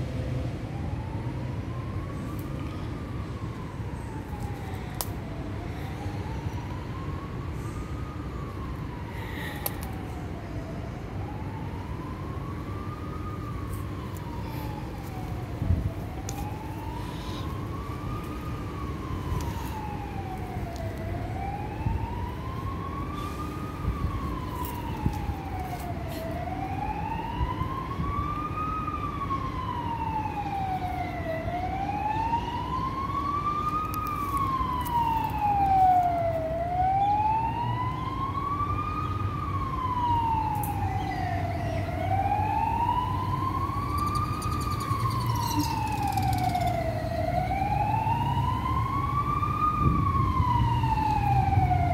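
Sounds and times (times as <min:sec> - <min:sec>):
siren wailing: 0:00.6 - 0:51.9.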